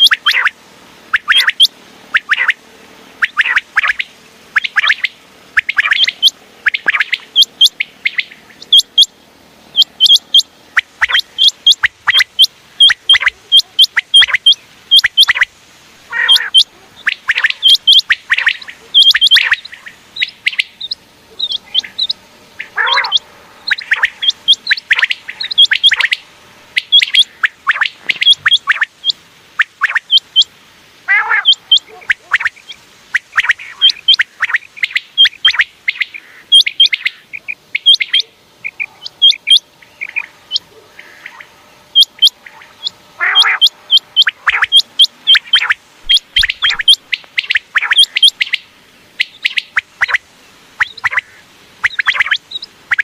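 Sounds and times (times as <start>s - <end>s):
quail calling: 0.0s - 53.0s.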